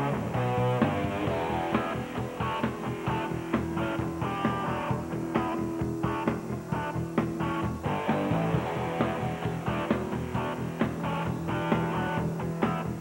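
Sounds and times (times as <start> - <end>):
rock music with guitar: 0.0 - 13.0.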